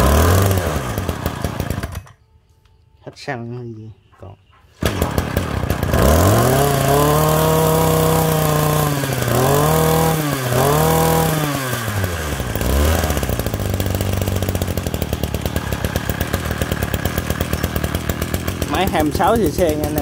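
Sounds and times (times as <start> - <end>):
brush cutter engine revving and idling: 0.0 - 2.1, 4.8 - 20.0.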